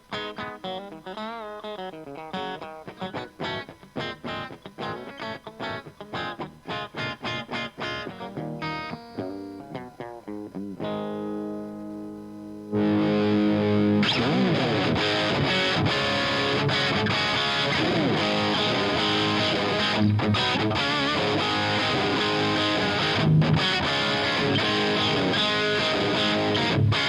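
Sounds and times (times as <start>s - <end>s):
distorted electric guitar: 0.0s - 27.0s.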